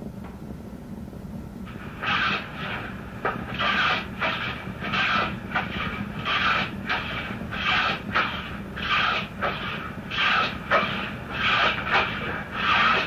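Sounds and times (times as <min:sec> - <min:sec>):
tool scraping wooden stick: 0:01.7 - 0:13.0.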